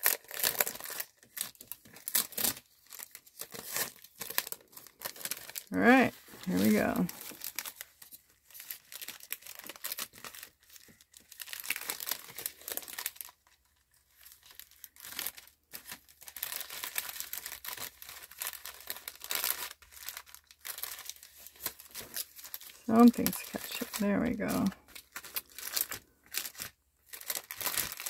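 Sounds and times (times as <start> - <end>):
cellophane bag crinkling: 0.0 - 28.0.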